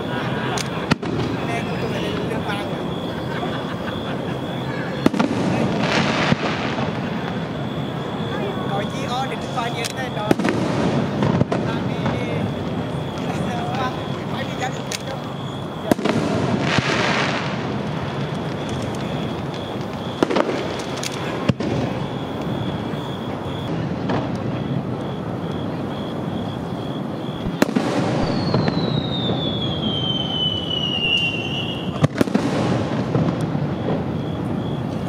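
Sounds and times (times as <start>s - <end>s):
firework whistle falling in pitch: 0.0s - 23.8s, 24.5s - 35.0s
fireworks bangs: 0.0s - 35.0s
steady noisy background: 0.0s - 35.0s.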